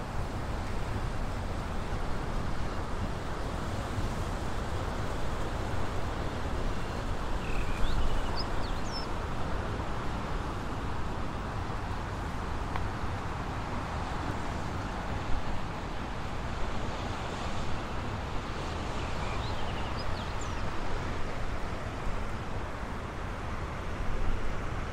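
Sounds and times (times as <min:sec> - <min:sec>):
surf washing: 0:00.0 - 0:24.9.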